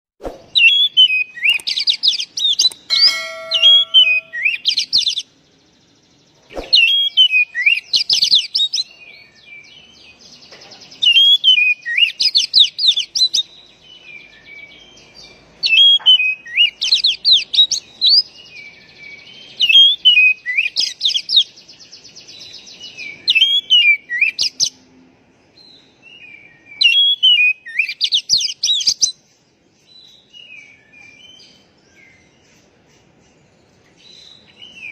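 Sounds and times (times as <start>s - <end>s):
bird singing whistled chattering notes: 0.2s - 5.4s, 6.2s - 24.7s, 25.7s - 34.9s.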